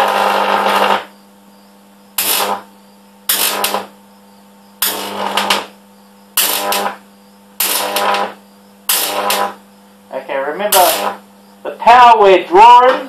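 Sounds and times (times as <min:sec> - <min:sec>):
buzzing high-voltage arcs: 0:00.0 - 0:13.0
transformer mains hum: 0:00.0 - 0:13.0.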